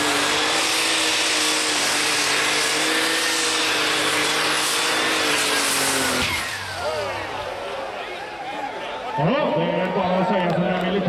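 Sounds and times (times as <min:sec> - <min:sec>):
engine winding down: 0:00.0 - 0:09.0.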